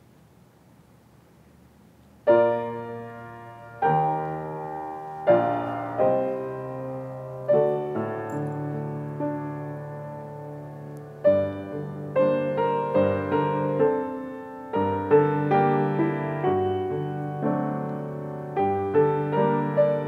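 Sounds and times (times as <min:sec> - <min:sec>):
grand piano chords: 0:02.2 - 0:20.0.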